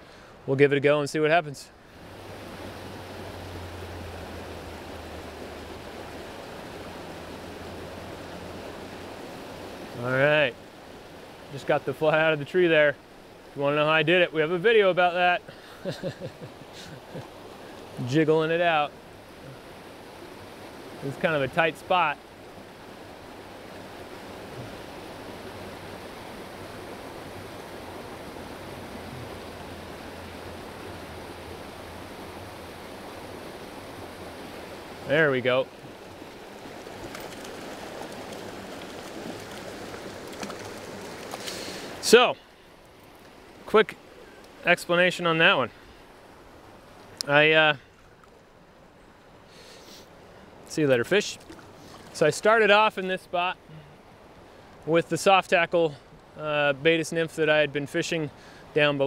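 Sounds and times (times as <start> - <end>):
stream running over rocks: 0.1 - 59.0.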